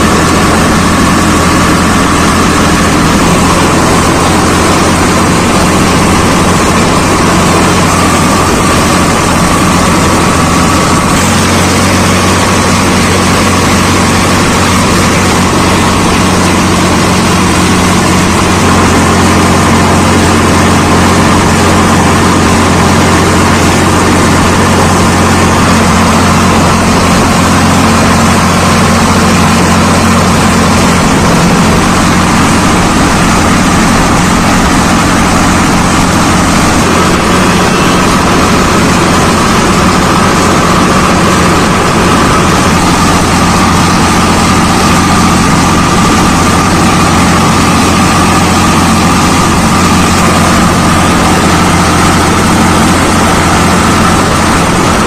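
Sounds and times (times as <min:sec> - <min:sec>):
high engine whine: 0:00.0 - 0:55.0
tractor diesel engine running: 0:00.0 - 0:55.0.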